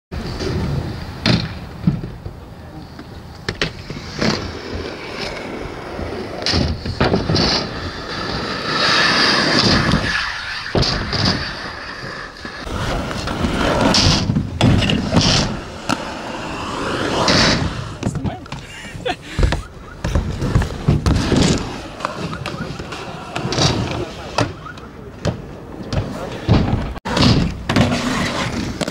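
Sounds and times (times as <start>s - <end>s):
skate wheels rolling on asphalt: 0.2s - 28.9s.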